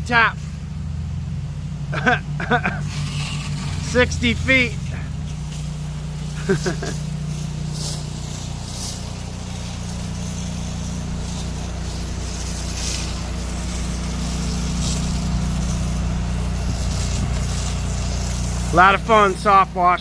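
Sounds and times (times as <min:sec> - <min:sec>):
engine low drone: 0:00.0 - 0:20.0
spray hissing: 0:00.0 - 0:20.0.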